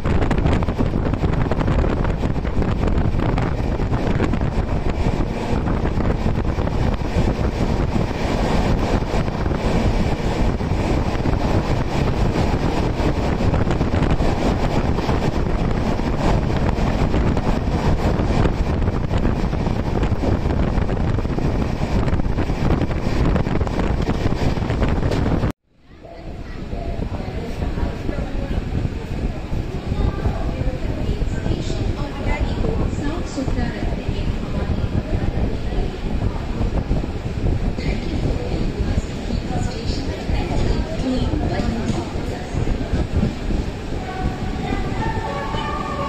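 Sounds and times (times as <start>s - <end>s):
air rushing past train: 0.0s - 46.0s
wheel and rail noise: 0.0s - 46.0s
wind buffeting microphone: 0.0s - 46.0s.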